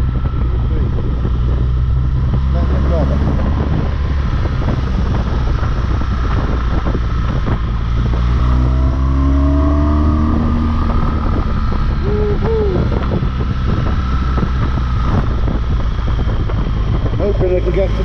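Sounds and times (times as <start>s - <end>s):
motorcycle engine accelerating: 0.0s - 18.0s
wind rushing over microphone: 0.0s - 18.0s.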